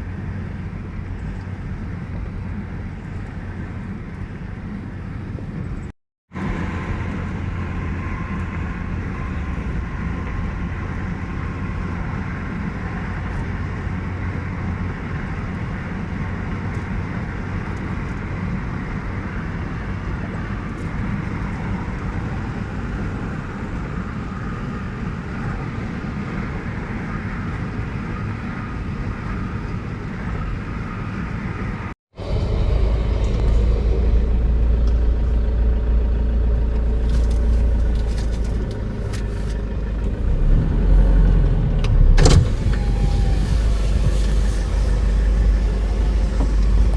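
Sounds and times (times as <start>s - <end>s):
car tyre and engine rumble: 0.0s - 46.9s.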